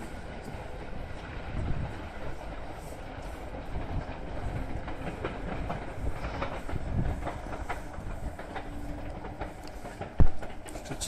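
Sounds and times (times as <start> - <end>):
train rolling with low rumble: 0.0 - 11.0
wheels clicking over rail joints: 0.0 - 11.0.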